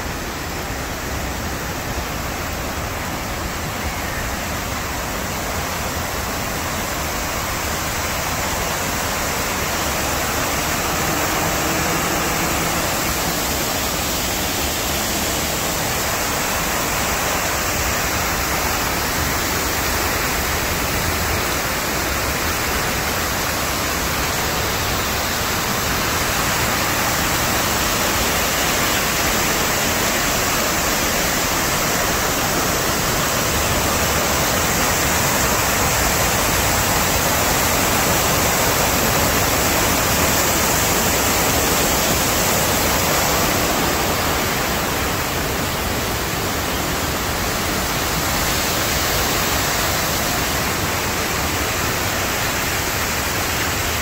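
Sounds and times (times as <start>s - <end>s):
waterfall rushing into basin: 0.0s - 54.0s.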